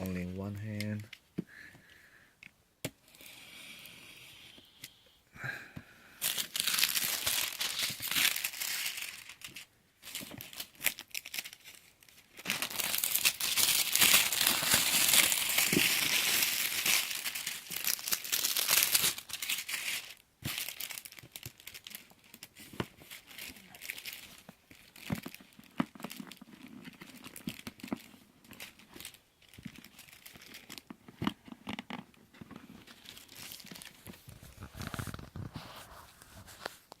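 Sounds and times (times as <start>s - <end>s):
packaging crinkling: 6.2s - 37.0s.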